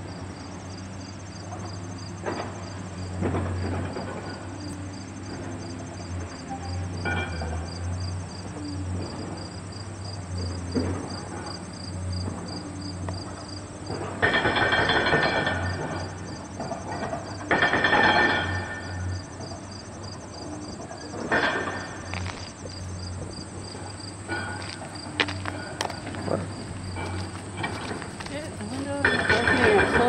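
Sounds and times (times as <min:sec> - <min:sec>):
high insect trill: 0:00.0 - 0:30.0
insects chirping: 0:00.0 - 0:30.0.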